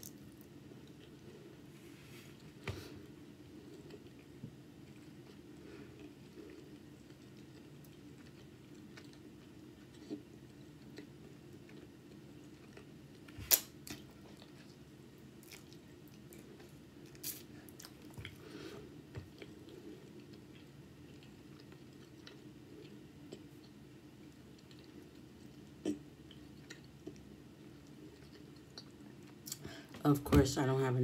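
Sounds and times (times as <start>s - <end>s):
person chewing food: 0.0s - 1.7s, 2.3s - 29.7s
faint steady hum: 0.0s - 31.0s.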